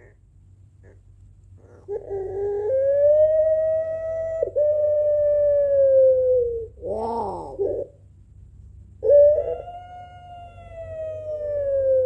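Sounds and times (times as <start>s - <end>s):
dove cooing: 0.0s - 0.2s, 0.8s - 1.0s, 1.6s - 8.0s, 9.0s - 12.0s.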